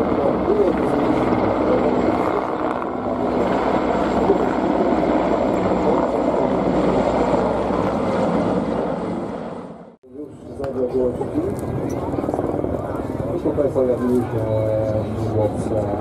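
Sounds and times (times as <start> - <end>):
helicopter rotors and engines: 0.0 - 16.0.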